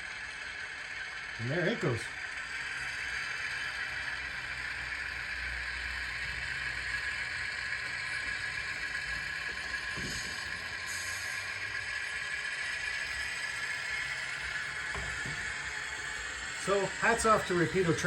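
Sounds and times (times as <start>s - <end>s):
model locomotive running with rattle: 0.0s - 18.0s.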